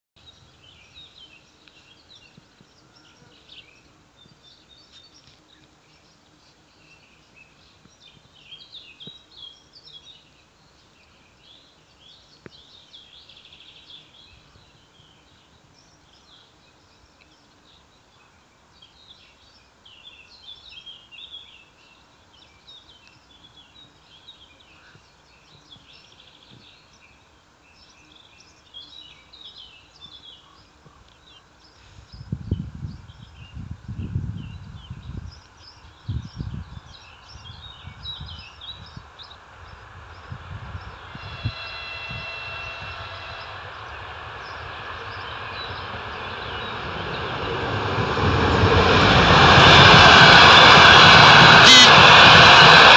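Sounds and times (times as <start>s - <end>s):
songbirds singing and chirping: 0.2s - 47.8s.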